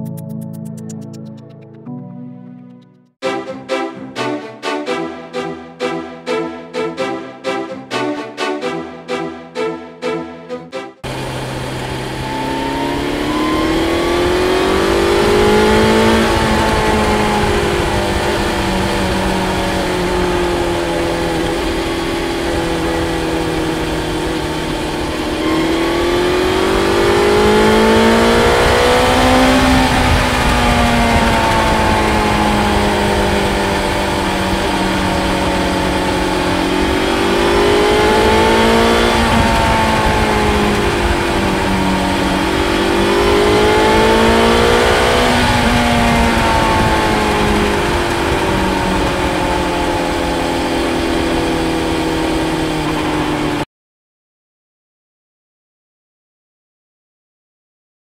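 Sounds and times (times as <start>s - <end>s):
motorcycle engine accelerating: 4.2s - 53.7s.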